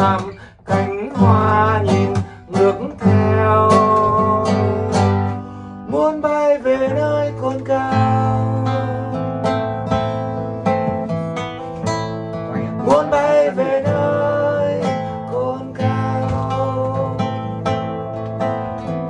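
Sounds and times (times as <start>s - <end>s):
man singing: 0.0s - 10.4s, 12.4s - 18.3s
acoustic guitars strumming: 0.0s - 19.0s.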